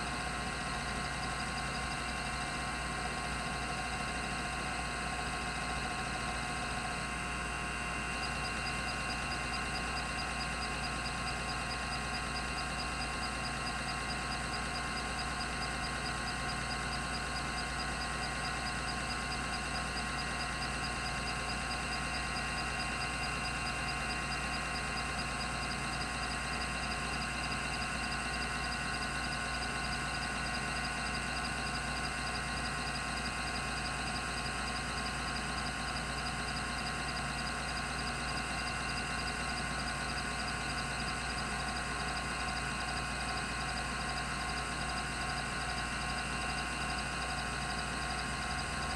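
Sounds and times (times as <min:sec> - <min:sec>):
hard drive spindle whir: 0:00.0 - 0:48.9.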